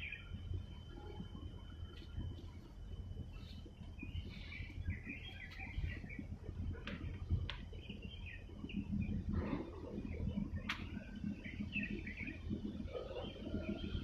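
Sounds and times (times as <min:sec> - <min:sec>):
birds chirping and twittering: 0:00.0 - 0:14.0
steady low rumble: 0:00.0 - 0:14.0.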